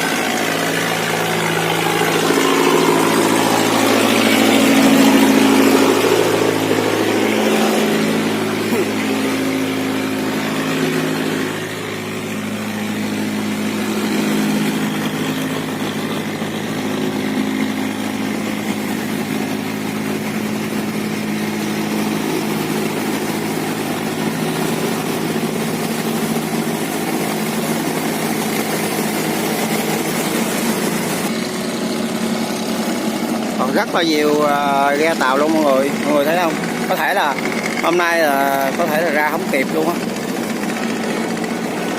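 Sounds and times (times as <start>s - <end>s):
boat engines humming: 0.0s - 41.9s.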